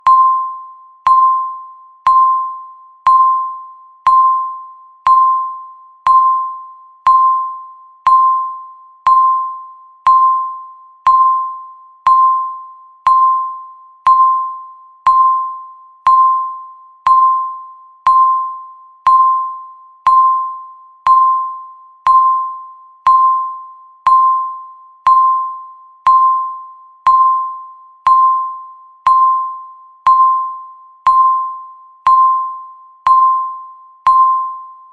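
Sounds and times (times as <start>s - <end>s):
electronic timer dings: 0.0s - 34.9s.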